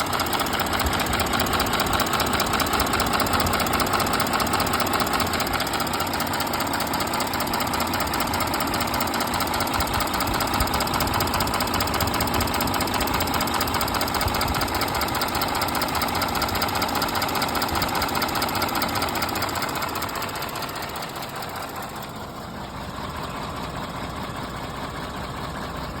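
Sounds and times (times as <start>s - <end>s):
engine knocking: 0.0s - 26.0s.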